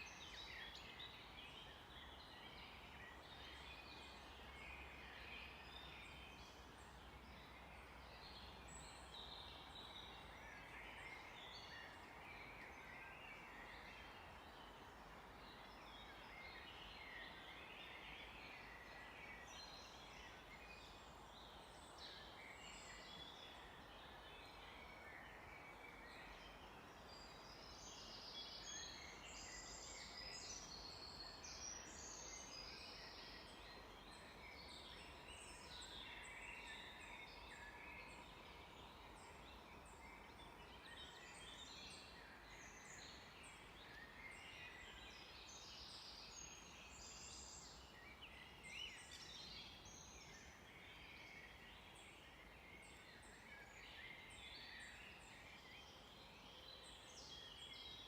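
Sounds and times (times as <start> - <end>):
faint steady hiss: 0.0 - 58.0.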